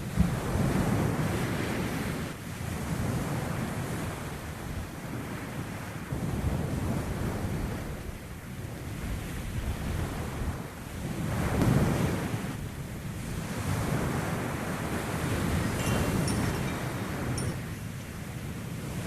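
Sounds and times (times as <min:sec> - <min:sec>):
rushing wind: 0:00.0 - 0:19.0
wind buffeting microphone: 0:00.0 - 0:19.0.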